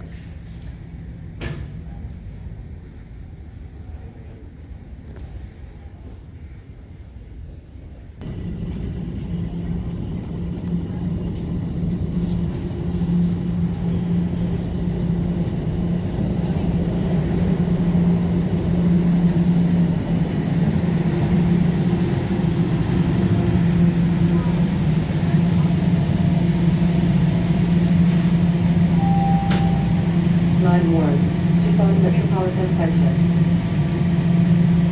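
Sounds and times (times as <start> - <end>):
subway train running on rails: 0.0 - 34.9.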